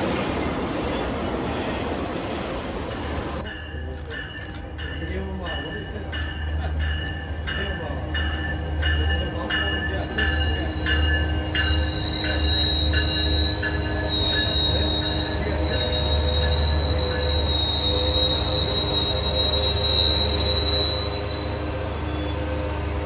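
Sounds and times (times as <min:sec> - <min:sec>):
rhythmic clack of train wheels: 0:02.7 - 0:23.0
train wheels squealing: 0:03.0 - 0:23.0.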